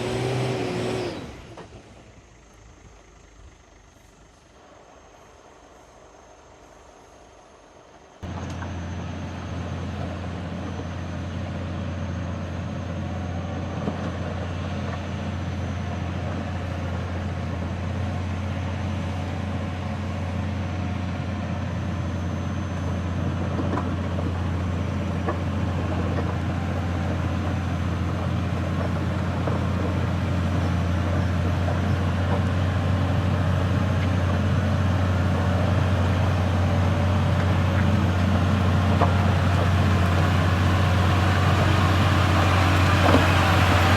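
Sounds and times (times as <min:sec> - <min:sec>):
truck diesel engine under load: 0:00.0 - 0:05.7, 0:08.2 - 0:43.9.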